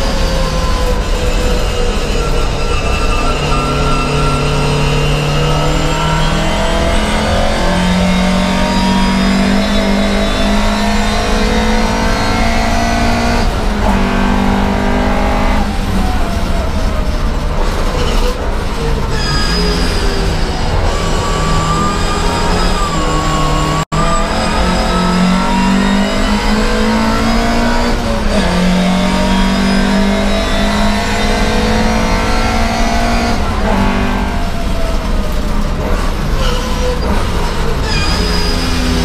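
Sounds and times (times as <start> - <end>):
race car engine revving: 0.0 - 39.0.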